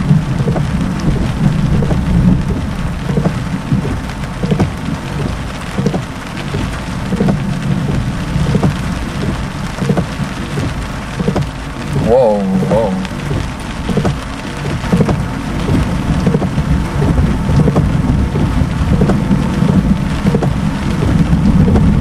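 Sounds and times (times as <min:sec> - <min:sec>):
heavy rain drumming on car roof: 0:00.0 - 0:22.0
low rumble: 0:00.0 - 0:22.0.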